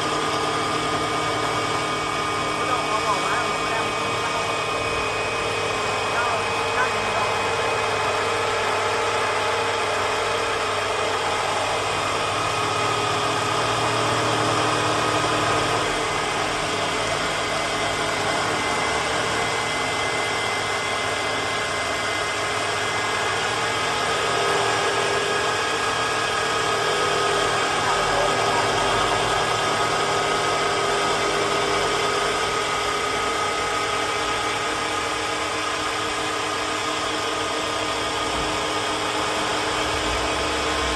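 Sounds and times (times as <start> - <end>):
wood lathe running: 0.0 - 40.9.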